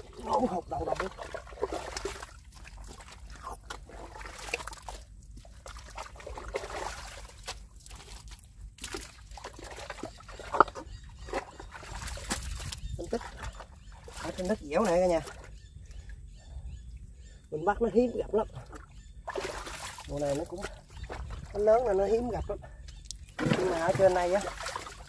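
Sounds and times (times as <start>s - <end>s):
wet mud squelching: 0.0s - 16.1s, 18.2s - 25.0s
watery mud sloshing: 0.0s - 17.5s, 18.2s - 25.0s.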